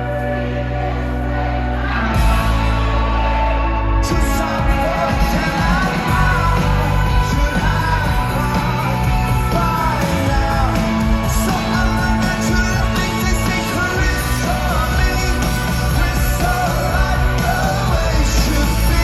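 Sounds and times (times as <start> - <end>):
lead singer singing: 0.0 - 19.0
rock band playing live: 0.0 - 19.0.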